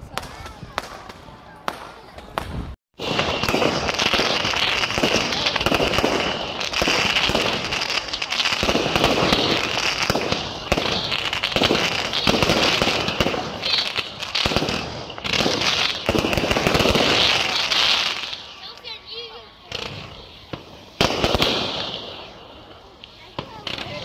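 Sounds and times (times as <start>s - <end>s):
firework bursts and crackling: 0.0s - 24.0s.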